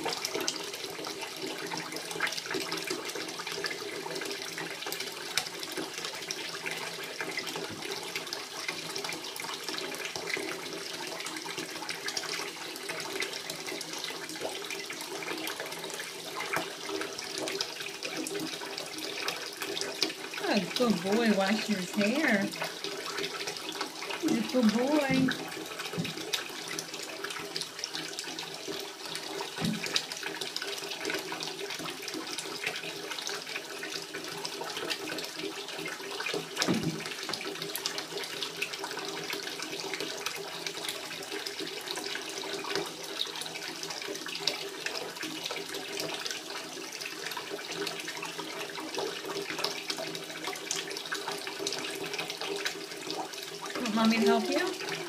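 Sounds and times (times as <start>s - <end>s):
water running into bathtub: 0.0s - 55.0s.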